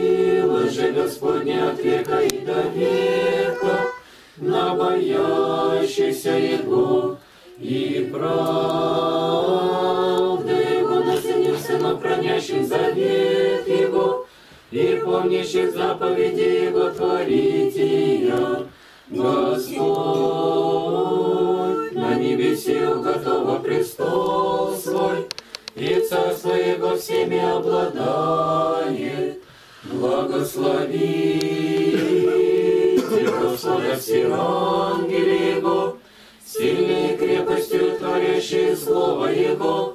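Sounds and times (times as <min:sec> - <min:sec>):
small choir chanting: 0:00.0 - 0:39.9.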